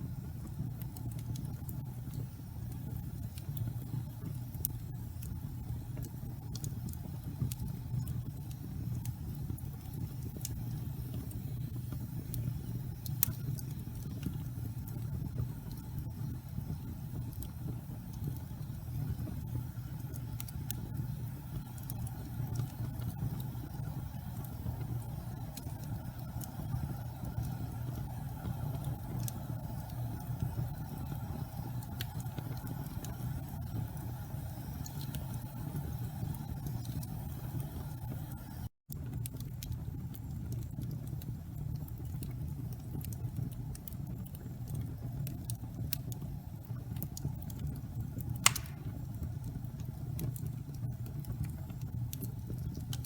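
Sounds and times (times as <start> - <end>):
fire burning with low rumble: 0.0 - 53.0
fire crackling and popping: 0.0 - 53.0.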